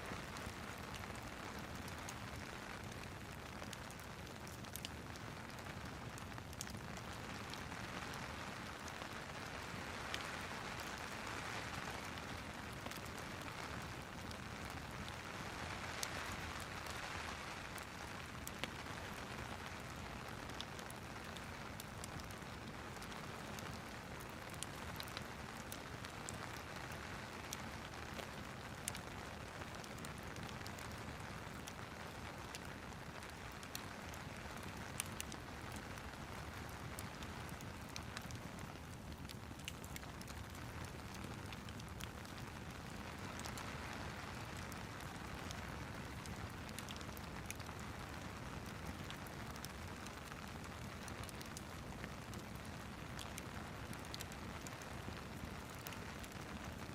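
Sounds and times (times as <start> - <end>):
steady rain hiss: 0.0 - 56.9
wood fire crackling: 0.0 - 56.9.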